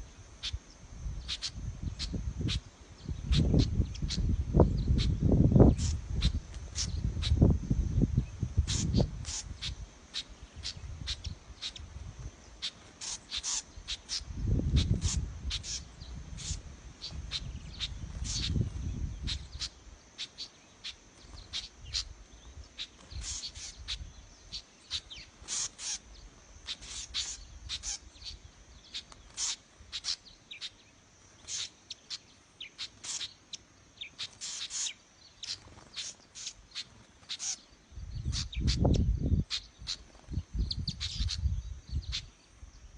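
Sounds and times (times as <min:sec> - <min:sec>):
small birds alarm chirps: 0:00.0 - 0:42.9.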